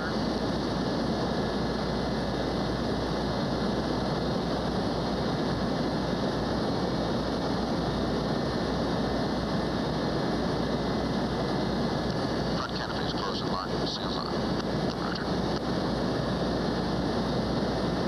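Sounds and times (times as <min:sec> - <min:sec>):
aircraft engine noise: 0:00.0 - 0:18.0
constant low hum: 0:00.0 - 0:18.0.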